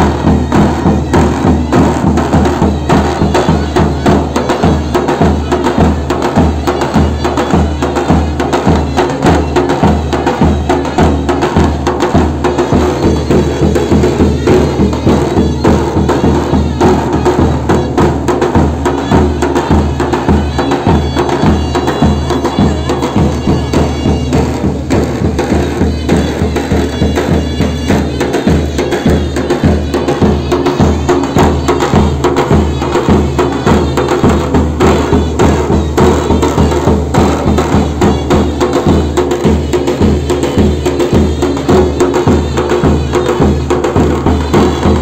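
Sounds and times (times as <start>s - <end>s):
piercing double-reed pipe melody: 0.0s - 45.0s.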